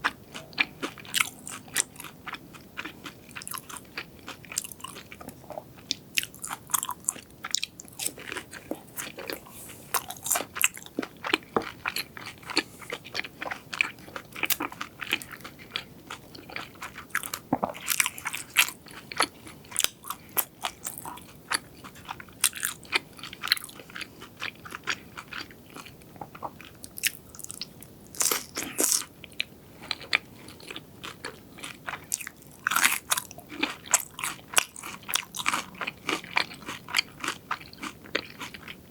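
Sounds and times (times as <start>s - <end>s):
crunchy bites and chewing: 0.0s - 38.8s.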